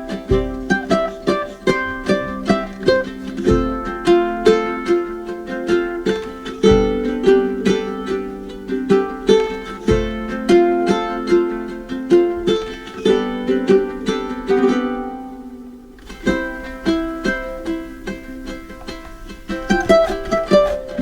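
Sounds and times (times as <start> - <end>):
plucked ukulele tune: 0.0 - 21.0.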